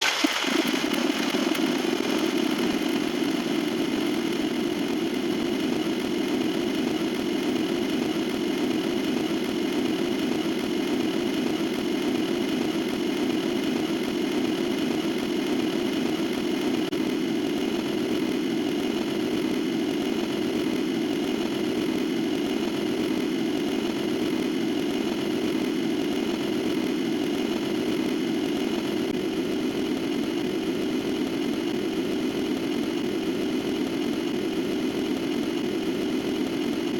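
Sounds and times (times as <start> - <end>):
engine-like drone: 0.0 - 36.9.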